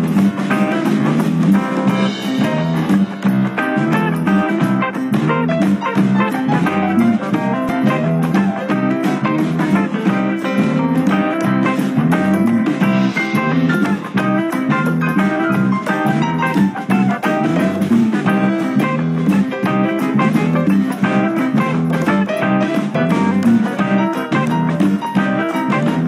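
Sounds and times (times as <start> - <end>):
upbeat plucked guitar music: 0.0 - 26.0.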